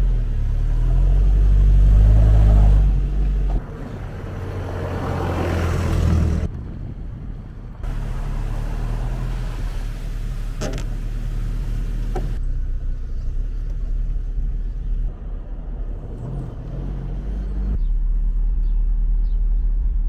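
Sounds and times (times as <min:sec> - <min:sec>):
road noise: 0:00.0 - 0:20.0
vehicle engine drone: 0:00.0 - 0:20.0.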